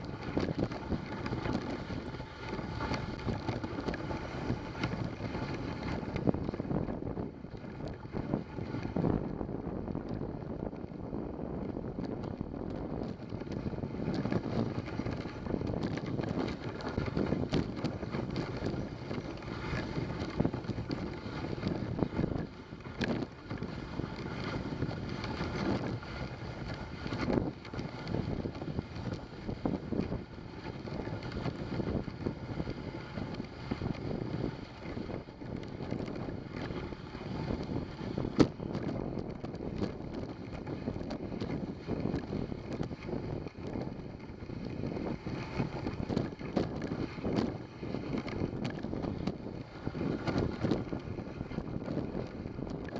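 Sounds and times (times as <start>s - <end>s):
sled runners scraping on snow: 0.0s - 9.3s, 12.0s - 52.9s
sled knocks and rattles: 0.0s - 11.0s, 11.6s - 52.9s
wind on microphone: 0.0s - 52.9s.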